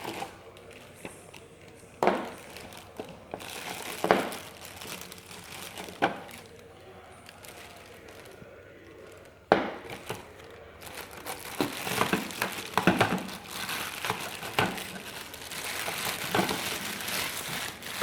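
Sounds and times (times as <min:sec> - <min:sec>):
crinkling and crunching with clicks: 0:00.0 - 0:18.0.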